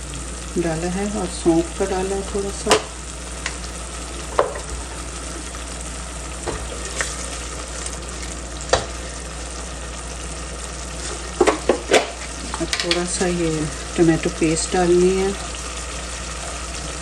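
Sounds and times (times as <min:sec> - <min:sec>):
onions and spices sizzling: 0:00.0 - 0:17.0.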